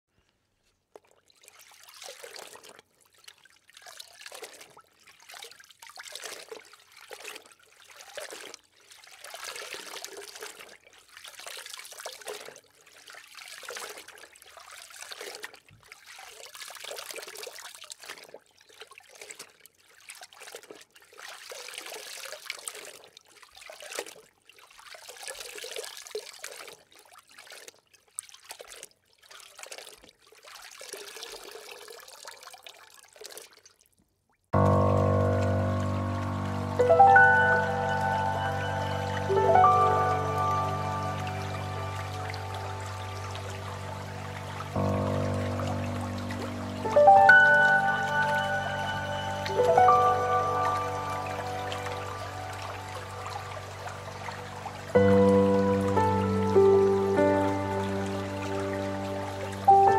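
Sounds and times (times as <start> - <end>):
water bubbling and trickling: 0.7 - 59.9.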